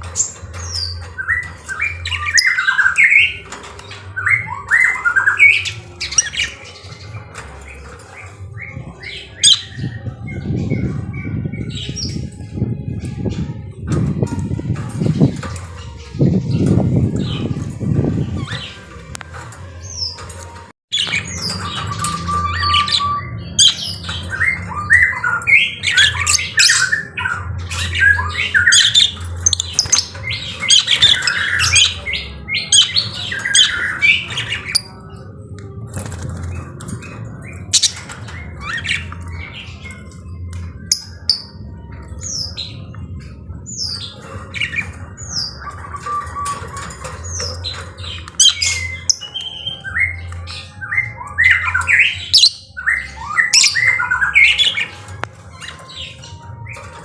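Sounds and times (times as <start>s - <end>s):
lovebirds squawking and chirping: 0.0s - 57.0s.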